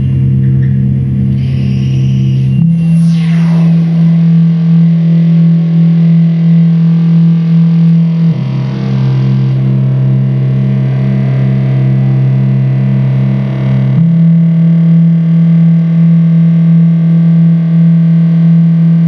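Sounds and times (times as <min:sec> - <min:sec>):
distorted electronic drone: 0:00.0 - 0:19.0.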